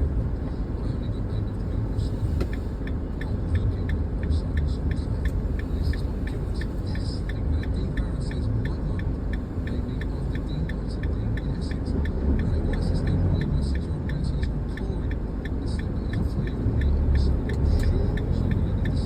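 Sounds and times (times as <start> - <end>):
car engine and cabin rumble: 0.0 - 19.0.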